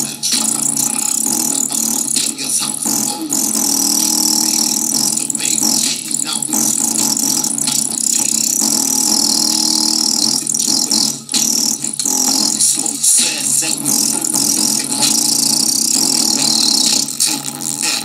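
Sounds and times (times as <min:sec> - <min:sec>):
distorted bass-heavy music on speaker: 0:00.0 - 0:18.0.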